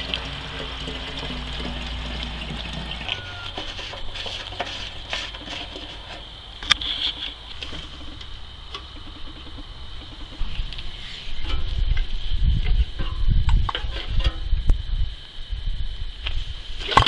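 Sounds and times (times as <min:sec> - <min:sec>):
fuel pouring through spout: 0:00.0 - 0:14.4
faint high-pitched hiss: 0:03.0 - 0:17.0.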